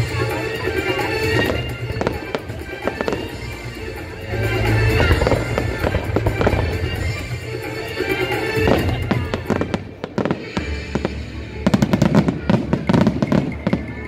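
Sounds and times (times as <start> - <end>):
low rumble of firework bursts: 0.0 - 13.9
fireworks crackling and popping: 0.0 - 14.0.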